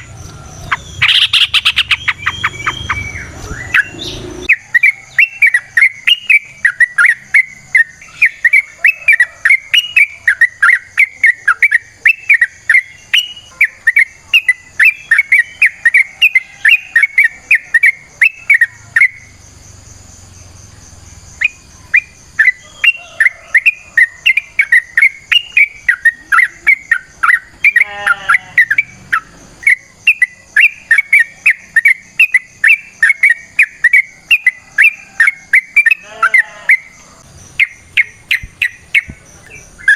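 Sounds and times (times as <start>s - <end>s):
bird whistling song: 0.0s - 19.3s, 21.4s - 39.9s.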